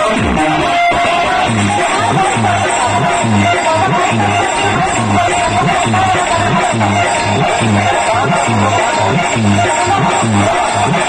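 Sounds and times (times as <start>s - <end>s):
loud music with deep bass beat: 0.0s - 11.0s.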